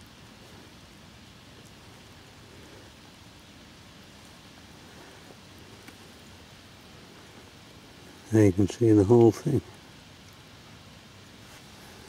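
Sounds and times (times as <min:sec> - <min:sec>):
river water hissing: 0:00.0 - 0:12.0.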